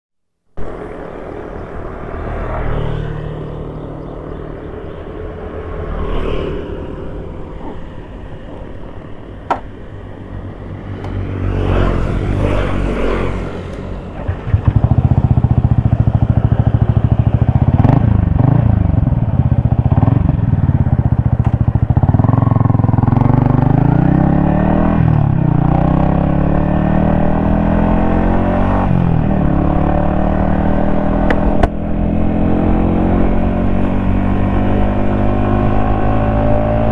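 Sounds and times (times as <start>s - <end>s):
motorcycle engine accelerating: 0.6s - 36.9s.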